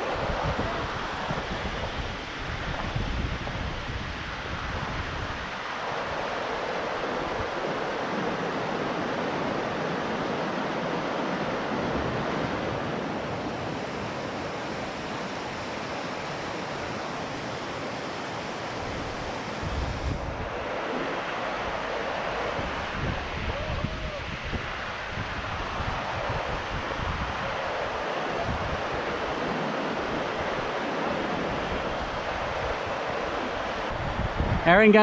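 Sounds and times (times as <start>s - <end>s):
river rushing over rocks: 0.0s - 35.0s
wind gust on microphone: 0.0s - 35.0s.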